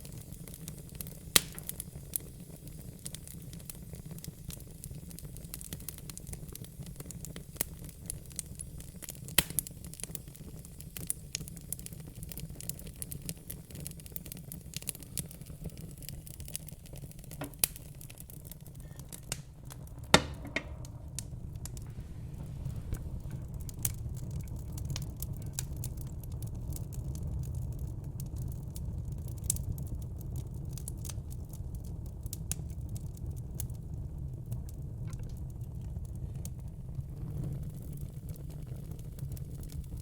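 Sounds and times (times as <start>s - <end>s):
fire crackling: 0.0s - 40.0s.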